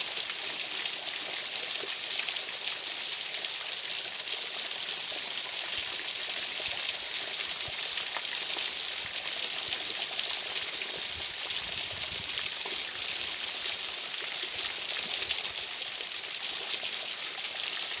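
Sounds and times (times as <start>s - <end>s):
running water hiss: 0.0s - 18.0s.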